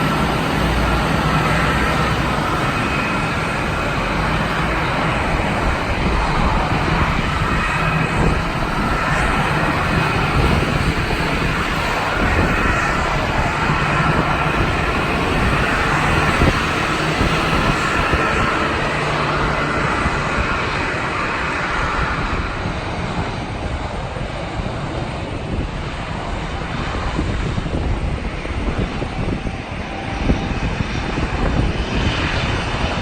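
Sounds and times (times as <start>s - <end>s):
jet engines rushing: 0.0s - 33.0s
wind buffeting microphone: 0.0s - 33.0s.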